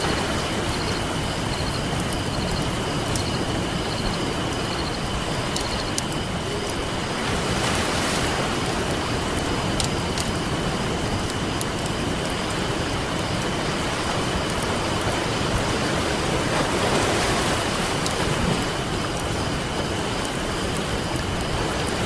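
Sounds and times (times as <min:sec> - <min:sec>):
campfire crackling and popping: 0:00.0 - 0:16.5, 0:17.5 - 0:22.0
ocean waves washing on beach: 0:00.0 - 0:22.0.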